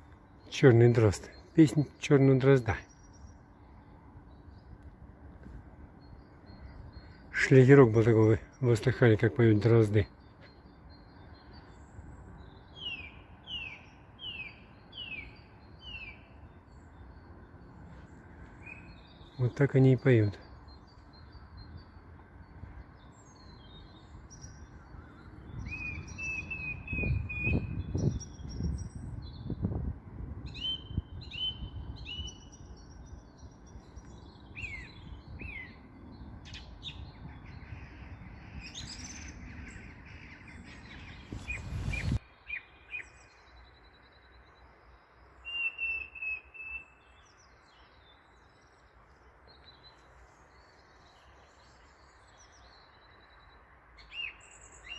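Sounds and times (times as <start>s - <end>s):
blackbird singing: 0.0s - 4.8s, 6.0s - 29.8s, 30.4s - 54.9s
small birds chirping: 0.0s - 54.9s.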